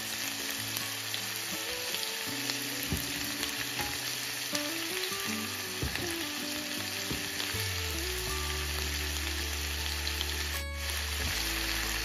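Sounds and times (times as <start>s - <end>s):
background music with low notes: 0.0s - 12.0s
food sizzling in hot oil: 0.0s - 12.0s.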